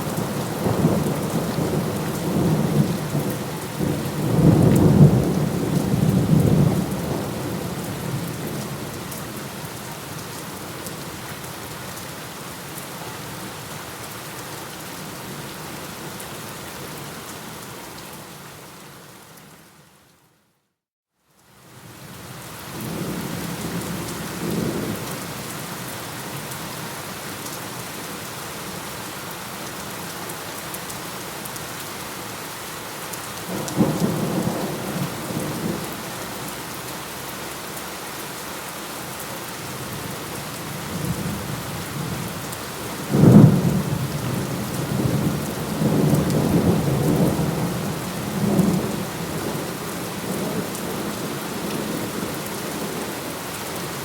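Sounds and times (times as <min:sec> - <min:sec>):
heavy rain: 0:00.0 - 0:19.7, 0:21.4 - 0:54.0.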